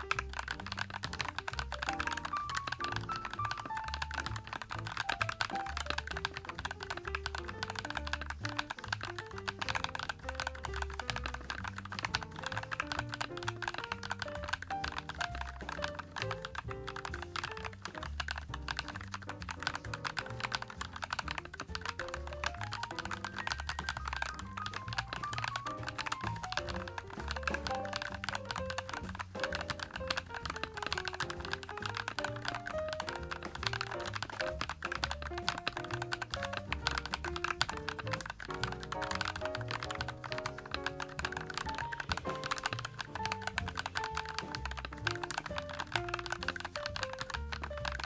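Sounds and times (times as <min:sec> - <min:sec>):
background music with bass: 0:00.0 - 0:48.0
mechanical keyboard typing: 0:00.0 - 0:48.0.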